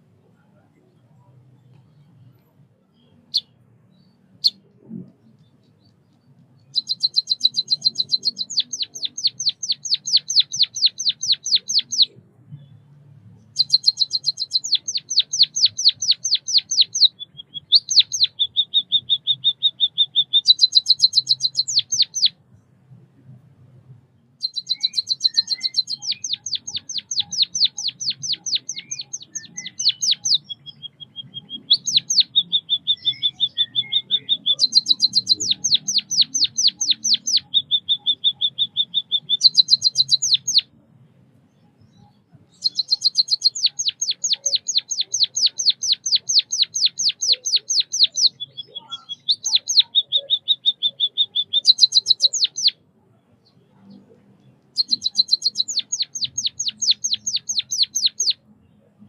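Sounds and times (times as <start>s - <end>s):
bird high chirps and trill: 2.9s - 22.4s, 24.4s - 40.8s, 41.4s - 58.5s.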